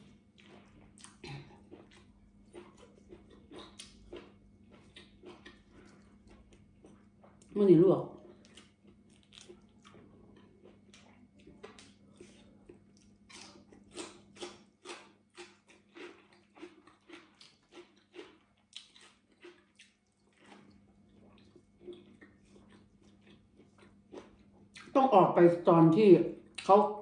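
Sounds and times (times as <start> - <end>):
chewing crisp vegetable stalks: 0.0 - 25.0, 26.4 - 27.0.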